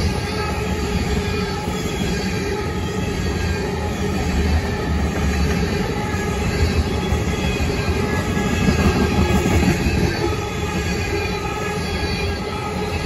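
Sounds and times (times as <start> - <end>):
railroad cars rumbling on rails: 0.0 - 13.0
wheels squealing: 0.4 - 13.0.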